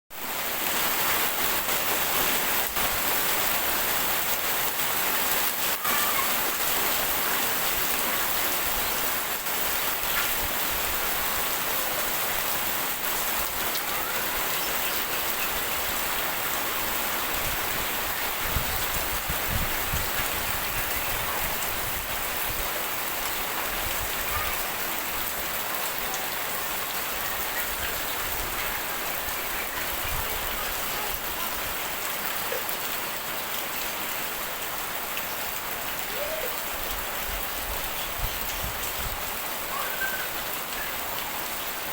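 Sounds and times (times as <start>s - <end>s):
rain pattering: 0.1s - 41.9s.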